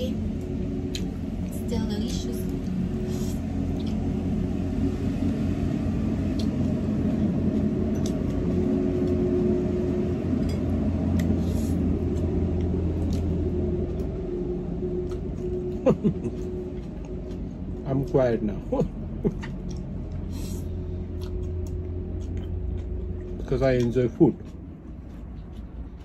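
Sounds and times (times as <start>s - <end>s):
airplane passing overhead: 0.0s - 26.0s.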